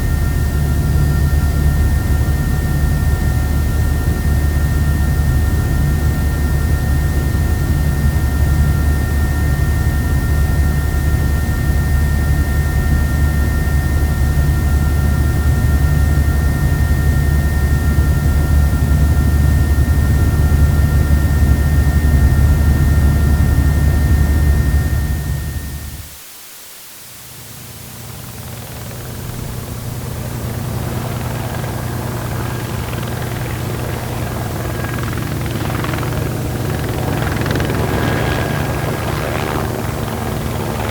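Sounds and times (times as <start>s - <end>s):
helicopter throb and whine: 0.0s - 26.0s, 27.7s - 40.9s.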